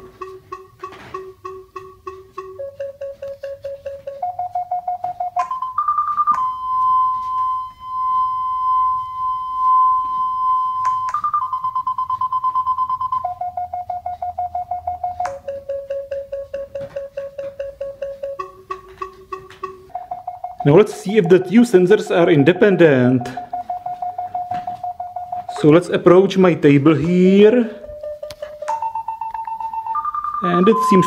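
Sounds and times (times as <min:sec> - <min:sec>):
parking sensor warning beeps: 0:00.0 - 0:31.0.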